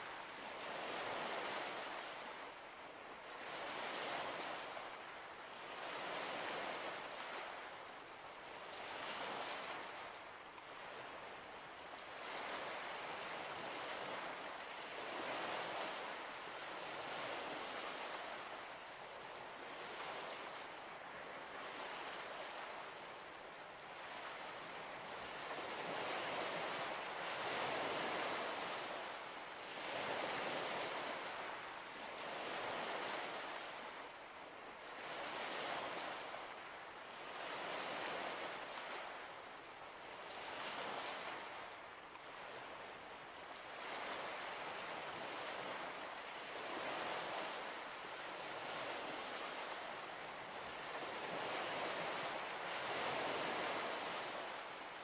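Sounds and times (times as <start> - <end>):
small waves washing onto shore: 0.0 - 55.0.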